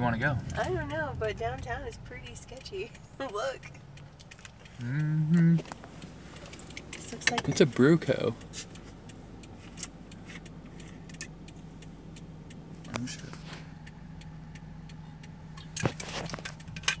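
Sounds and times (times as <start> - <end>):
car engine hum inside cabin: 0.0 - 17.0
light clicks and ticks: 0.4 - 17.0.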